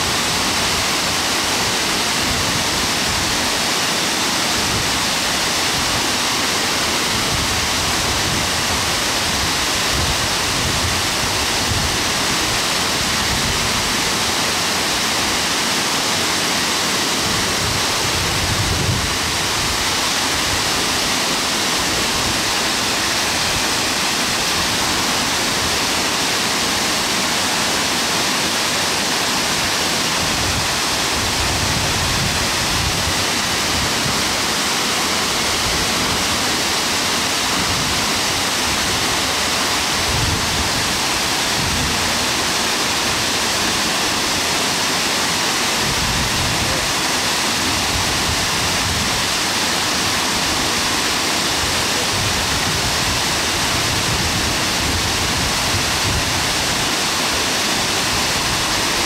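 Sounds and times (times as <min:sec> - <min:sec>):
waterfall rushing onto rocks: 0:00.0 - 0:59.0.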